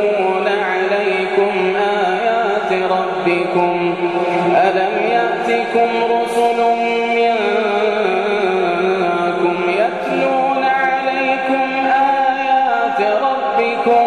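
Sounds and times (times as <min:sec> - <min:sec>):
man chanting a long vowel: 0:00.0 - 0:14.0.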